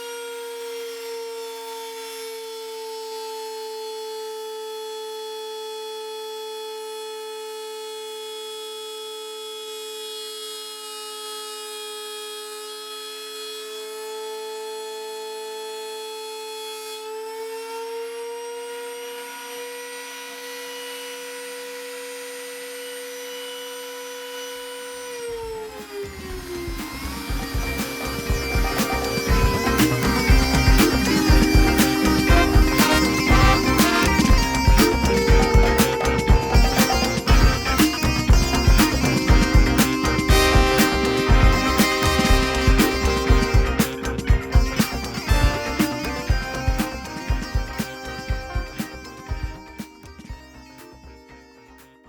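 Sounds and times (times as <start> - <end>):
router and vacuum whining: 0.0 - 43.8
motor spinning down: 0.0 - 50.6.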